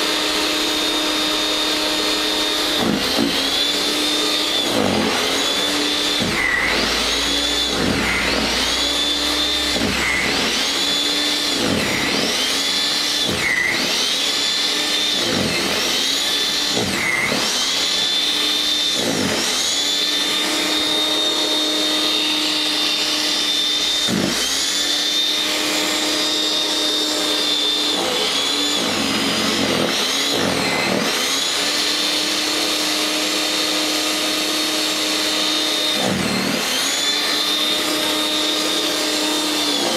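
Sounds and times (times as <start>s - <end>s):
electric snow thrower motor whine: 0.0s - 39.9s.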